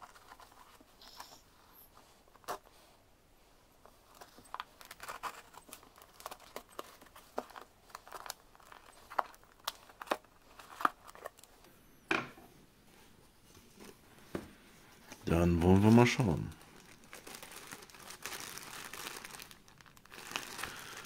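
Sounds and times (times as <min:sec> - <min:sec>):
packaging crinkling and rustling: 0:00.0 - 0:02.7, 0:03.8 - 0:11.7, 0:13.6 - 0:21.0.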